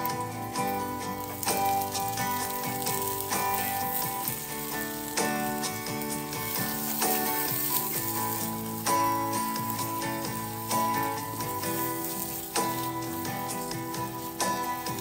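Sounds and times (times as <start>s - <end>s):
background music with steady notes: 0.0s - 15.0s
food sizzling in a pan: 0.0s - 15.0s.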